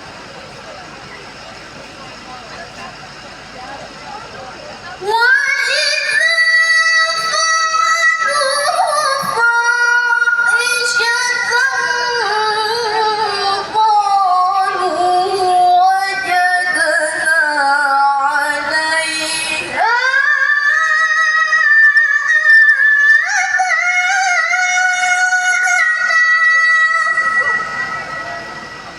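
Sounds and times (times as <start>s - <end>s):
woman reciting melodically: 4.9s - 28.8s.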